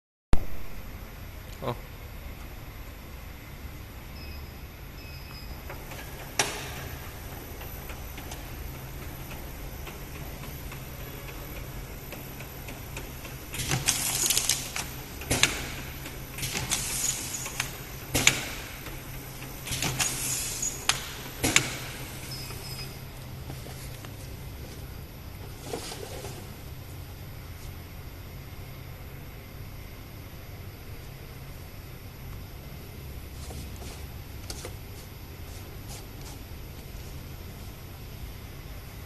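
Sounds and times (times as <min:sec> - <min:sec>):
labeling machine motor hum: 0:04.8 - 0:39.0.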